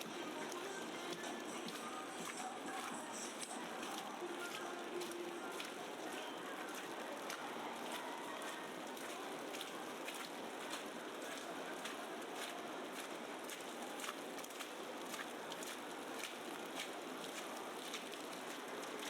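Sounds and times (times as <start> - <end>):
ticks of flakes and drips: 0.0 - 19.0.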